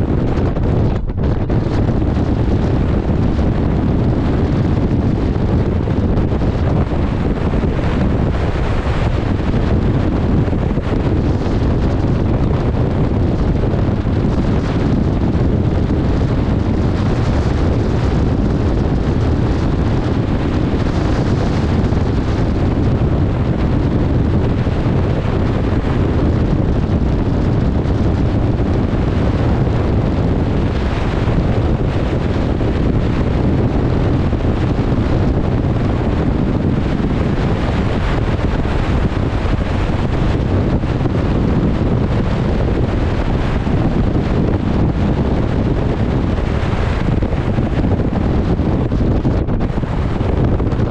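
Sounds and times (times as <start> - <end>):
wind buffeting microphone: 0.0 - 50.9
wind-driven waves rushing: 0.0 - 50.9.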